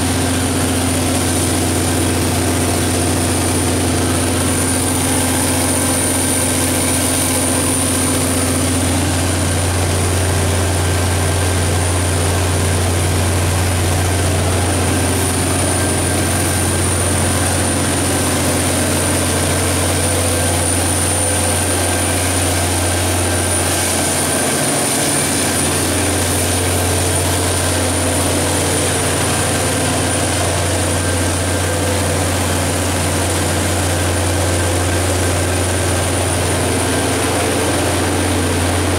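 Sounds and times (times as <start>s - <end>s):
diesel generator drone: 0.0s - 38.9s
high-pitched whine: 0.0s - 38.9s.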